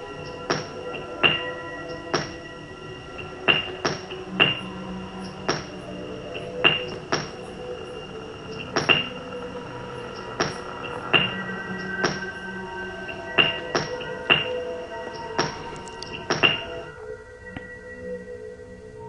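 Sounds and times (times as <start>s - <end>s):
steady held drone tones: 0.0s - 19.0s.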